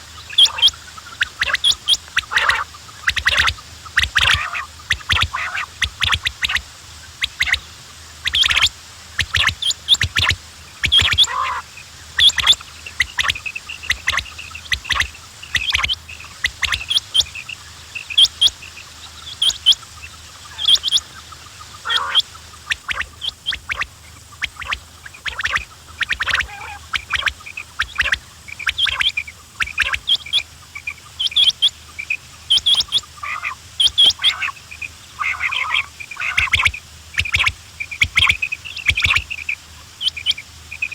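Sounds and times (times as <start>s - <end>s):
quails calling: 0.0s - 40.9s.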